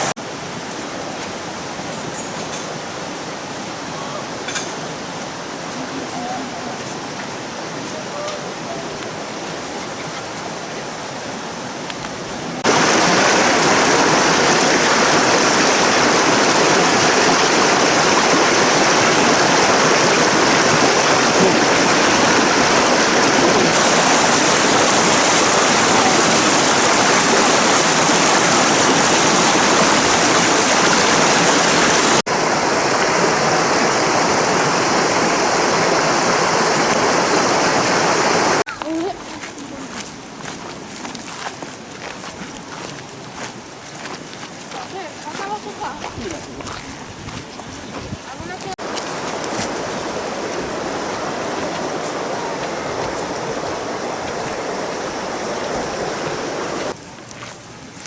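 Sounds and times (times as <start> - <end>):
rushing river water: 0.0 - 58.0.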